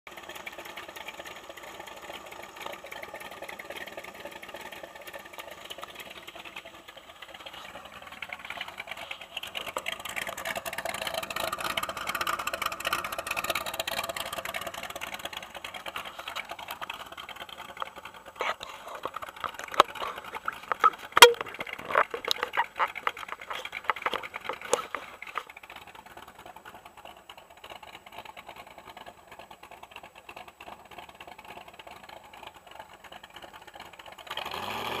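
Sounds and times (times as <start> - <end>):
muffled engine idling: 0.1 - 34.4.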